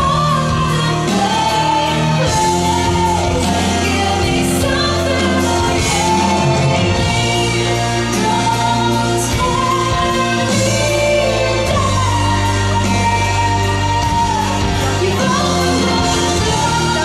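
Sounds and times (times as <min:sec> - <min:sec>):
pop song with singing: 0:00.0 - 0:17.0.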